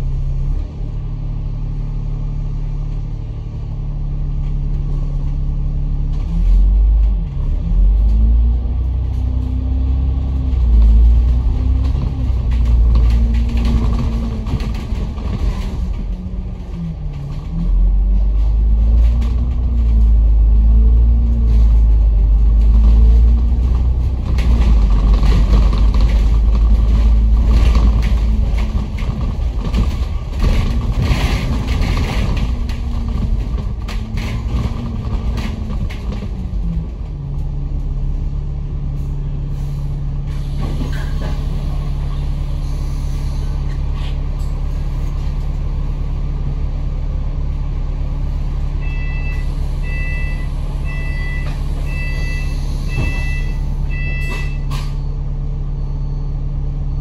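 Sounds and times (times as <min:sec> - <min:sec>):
bus engine shifting gears: 0:00.0 - 0:57.0
low rumble: 0:00.0 - 0:57.0.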